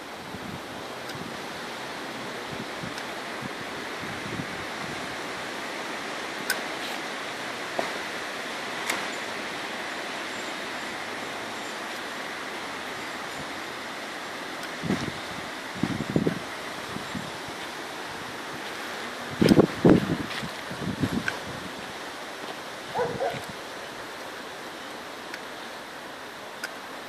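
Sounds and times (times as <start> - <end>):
wind-like rushing noise: 0.0 - 27.0.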